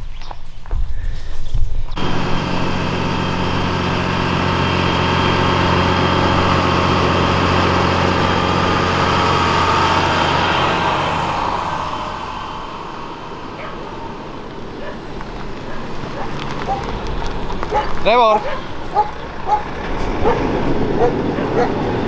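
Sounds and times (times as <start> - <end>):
large vehicle engine running: 1.9 - 22.0.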